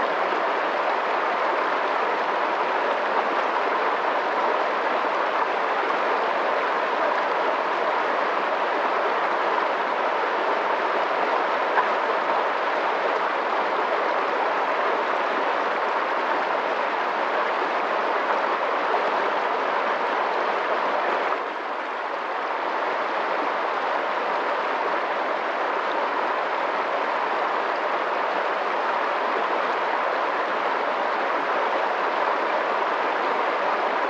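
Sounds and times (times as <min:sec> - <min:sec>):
water rushing: 0:00.0 - 0:34.0.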